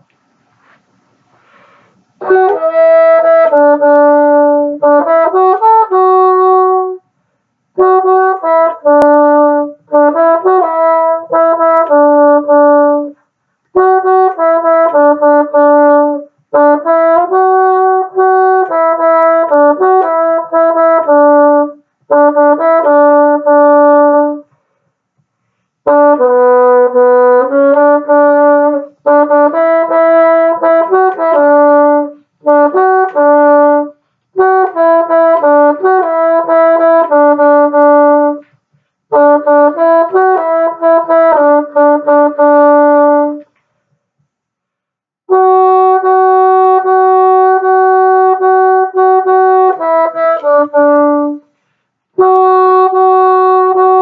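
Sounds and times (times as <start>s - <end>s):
solo bassoon melody: 2.0s - 24.6s, 25.8s - 43.6s, 45.3s - 54.0s.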